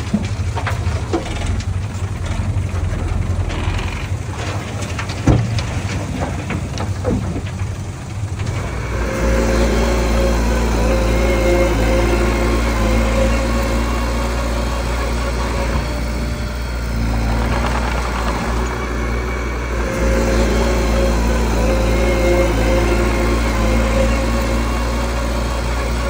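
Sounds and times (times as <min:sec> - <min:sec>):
bulldozer engine running: 0:00.0 - 0:26.0.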